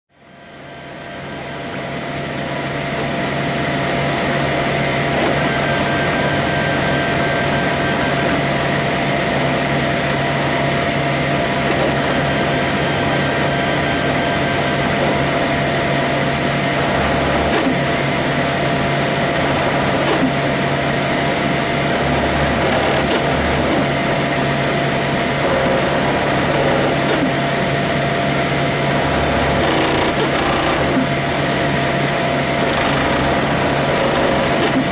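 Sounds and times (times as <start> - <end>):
cooling fans humming: 0.2 - 34.9
stepper motors whirring: 3.8 - 34.9.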